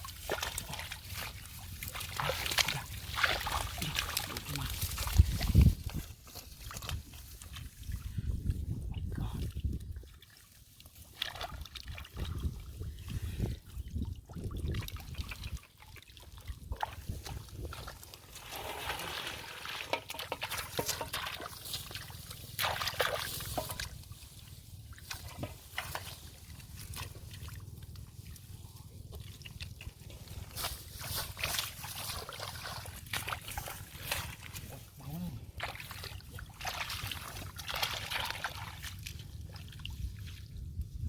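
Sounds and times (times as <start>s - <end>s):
water splashes: 0.0s - 40.8s
water sloshing and trickling: 0.0s - 41.0s.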